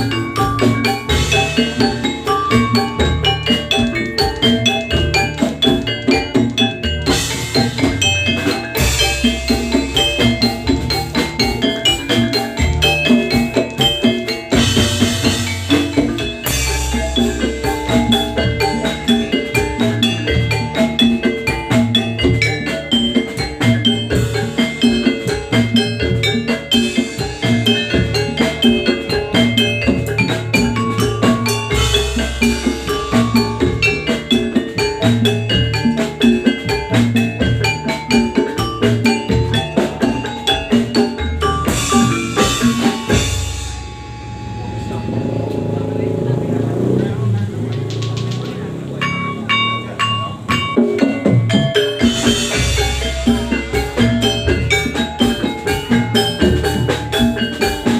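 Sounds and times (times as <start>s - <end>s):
metal keyed instruments playing: 0.0s - 57.9s
steady drum rhythm: 0.0s - 57.9s.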